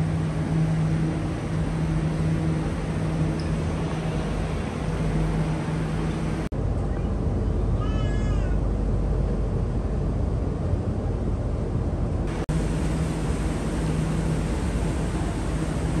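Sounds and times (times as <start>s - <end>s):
electric train humming: 0.0s - 7.8s, 8.6s - 16.0s.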